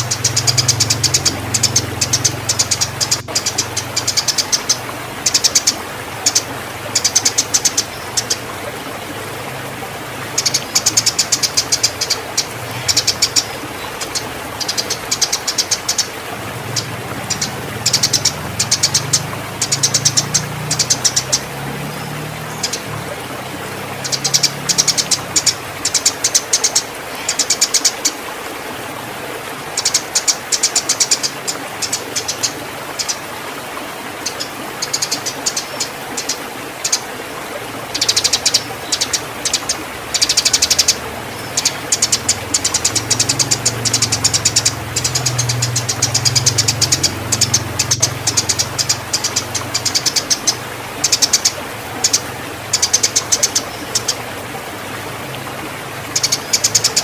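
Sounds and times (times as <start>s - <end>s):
sparrows chirping: 0.0s - 8.5s, 10.3s - 23.0s, 23.9s - 28.2s, 29.8s - 33.2s, 34.2s - 37.1s, 37.9s - 54.2s, 56.1s - 57.0s.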